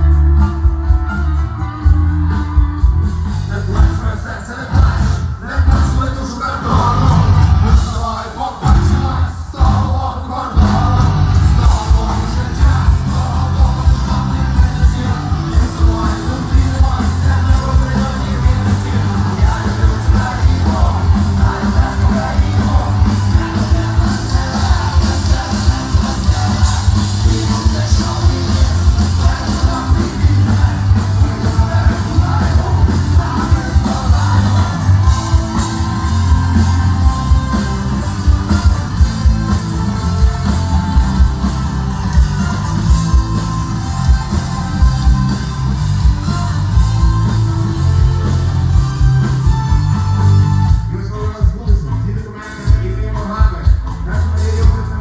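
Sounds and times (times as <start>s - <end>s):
person singing: 0.0s - 45.4s
live rock band playing: 0.0s - 55.0s.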